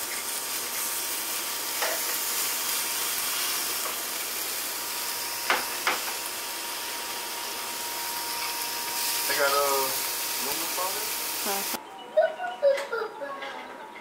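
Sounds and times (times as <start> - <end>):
chicken sizzling on a grill: 0.0 - 11.8.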